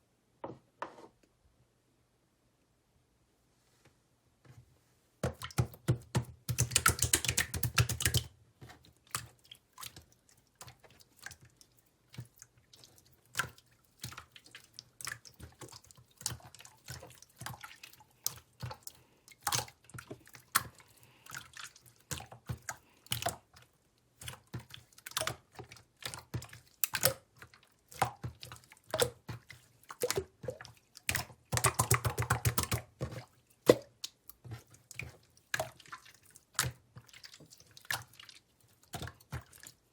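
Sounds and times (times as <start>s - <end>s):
slime squishing with wet clicks: 5.2s - 39.9s.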